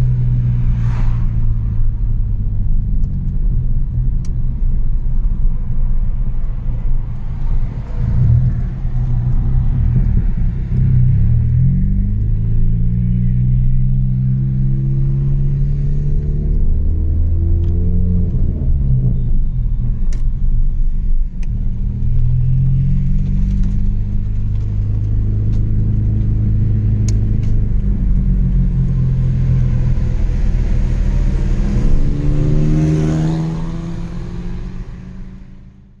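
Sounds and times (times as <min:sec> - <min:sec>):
car engine exhaust rumble: 0:00.0 - 0:36.0.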